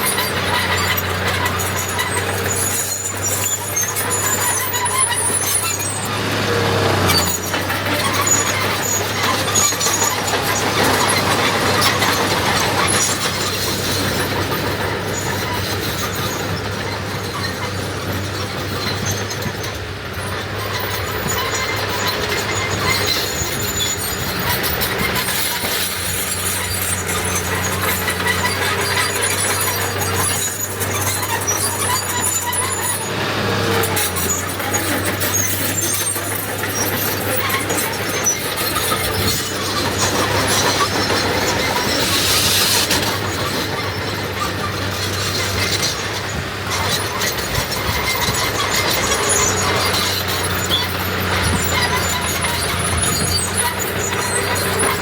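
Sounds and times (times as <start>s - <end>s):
diesel engine running: 0.0s - 55.0s
metallic squealing and rattling: 0.0s - 55.0s.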